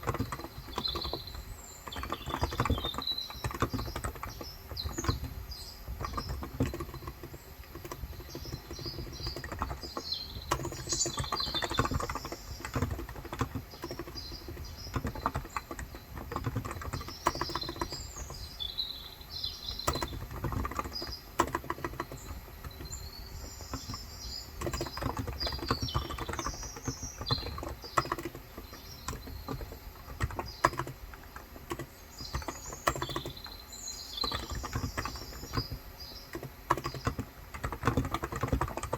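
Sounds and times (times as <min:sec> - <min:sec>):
keyboard typing: 0:00.0 - 0:18.6, 0:19.4 - 0:38.9
birds chirping: 0:00.0 - 0:38.9.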